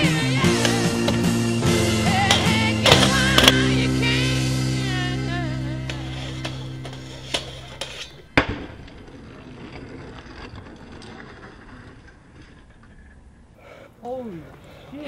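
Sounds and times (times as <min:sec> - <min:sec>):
scooter hitting ground: 0:00.0 - 0:12.4
scooter wheels rolling: 0:00.0 - 0:15.0.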